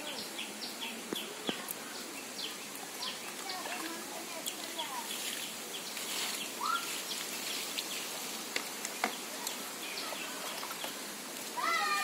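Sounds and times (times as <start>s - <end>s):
insect-like hiss: 0.0s - 12.0s
small birds chirping: 0.0s - 12.0s.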